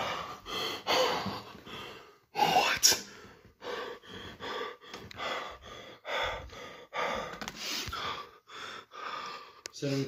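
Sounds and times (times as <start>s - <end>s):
person breathing hard and fast: 0.0s - 9.8s.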